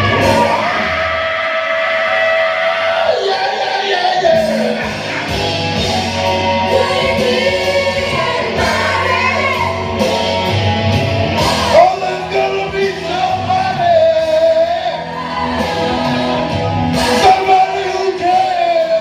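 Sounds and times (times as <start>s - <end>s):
backing track with bass and drums: 0.0s - 1.4s, 4.0s - 19.0s
men singing karaoke: 0.0s - 10.4s, 11.3s - 19.0s.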